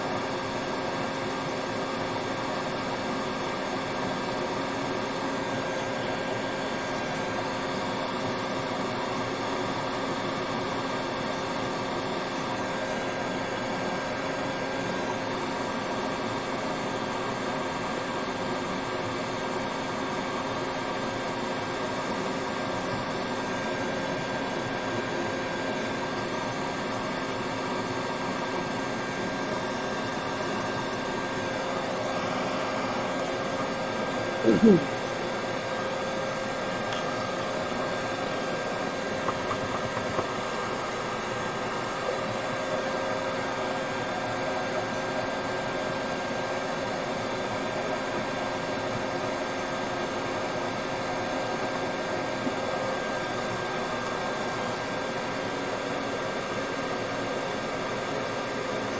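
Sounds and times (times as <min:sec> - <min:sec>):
fan whirring: 0:00.0 - 0:58.9.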